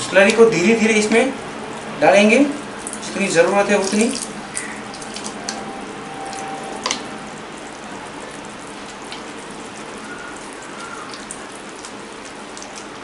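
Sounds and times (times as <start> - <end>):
gravy bubbling in a pan: 1.5 - 13.0.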